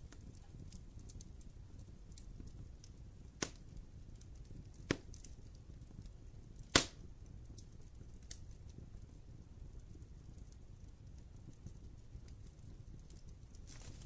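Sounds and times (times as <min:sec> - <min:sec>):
burning wood popping: 0:00.0 - 0:14.0
fire burning in fireplace: 0:00.0 - 0:14.0.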